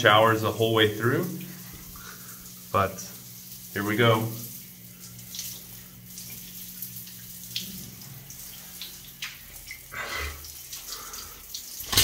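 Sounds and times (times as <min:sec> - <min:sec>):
low steady hum: 0:00.0 - 0:12.0
shower water hissing: 0:00.0 - 0:12.0.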